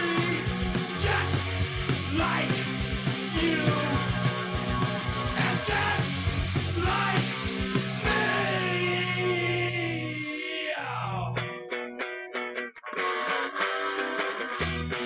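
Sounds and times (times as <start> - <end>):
punk rock band playing: 0.0 - 10.3, 11.0 - 15.0.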